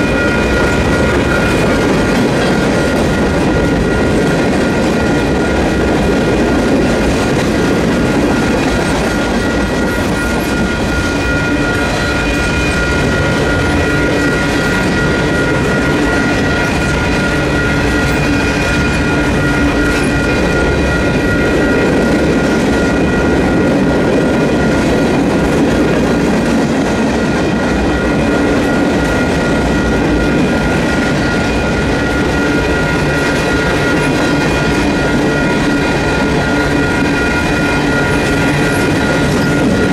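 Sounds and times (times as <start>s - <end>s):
crossing warning bells: 0.0s - 39.9s
freight train rumbling past: 0.0s - 39.9s.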